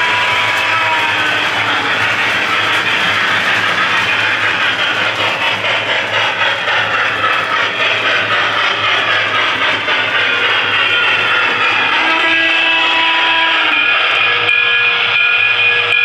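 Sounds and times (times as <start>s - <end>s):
toy train steam chuffing: 0.0s - 16.0s
train rumbling on track: 0.0s - 16.0s.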